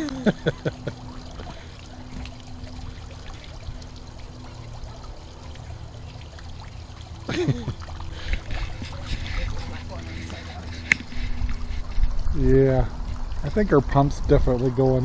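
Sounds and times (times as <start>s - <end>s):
water bubbling and trickling: 0.0s - 15.0s.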